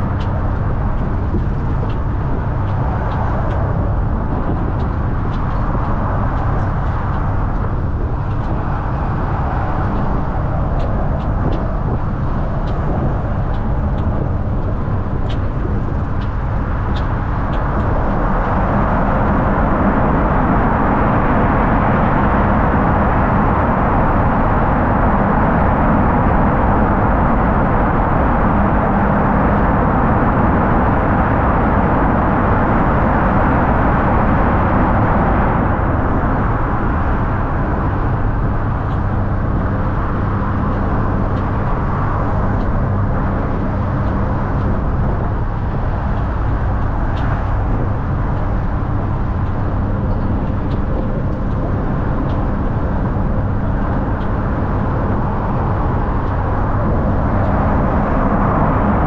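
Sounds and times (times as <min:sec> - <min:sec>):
bus road and engine noise: 0:00.0 - 0:59.0.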